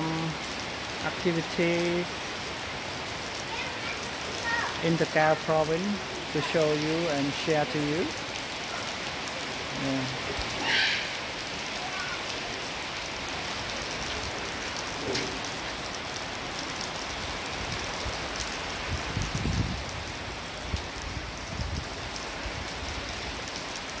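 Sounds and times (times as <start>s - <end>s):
rain falling on grass and concrete: 0.0s - 24.0s.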